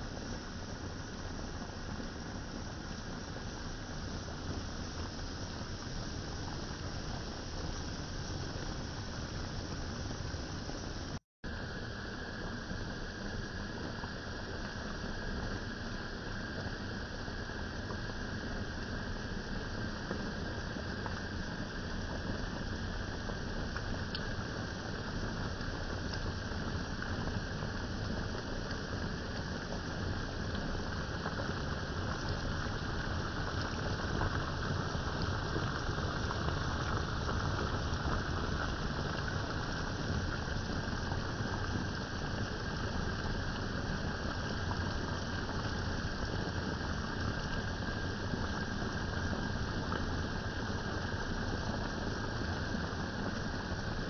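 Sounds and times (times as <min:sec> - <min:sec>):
pot simmering and bubbling: 0:00.0 - 0:54.0.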